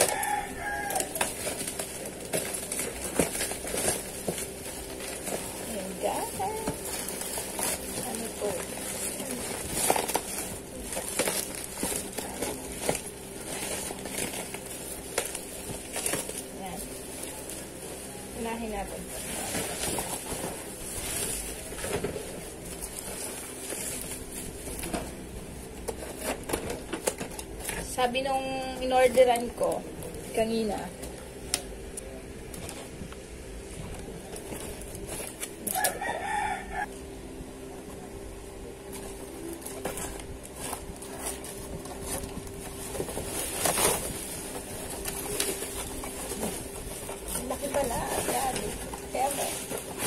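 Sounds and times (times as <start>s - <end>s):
cardboard packaging rustling: 0.0s - 31.7s, 33.9s - 36.9s, 38.0s - 50.0s
steady low hum: 0.0s - 50.0s.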